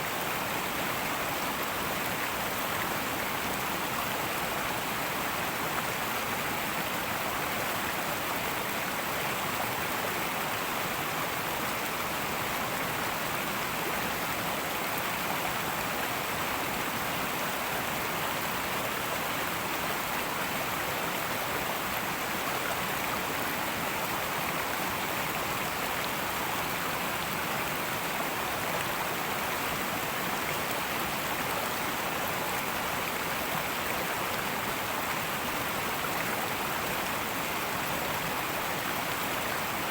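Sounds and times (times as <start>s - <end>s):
river rushing and babbling: 0.0s - 39.9s.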